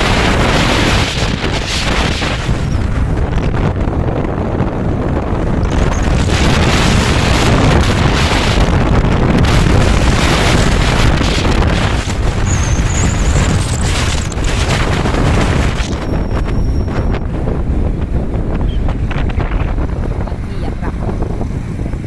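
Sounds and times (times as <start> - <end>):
road noise: 0.0 - 22.0
wind buffeting microphone: 0.0 - 22.0.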